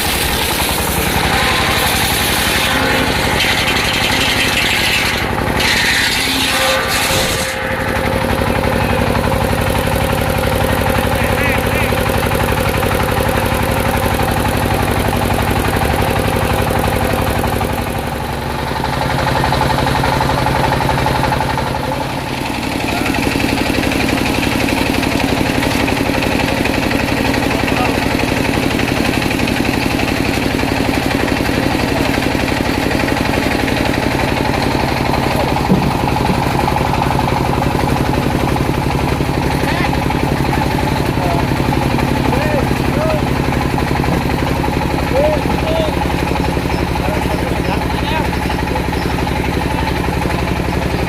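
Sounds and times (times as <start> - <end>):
sawmill engine running: 0.0 - 51.0.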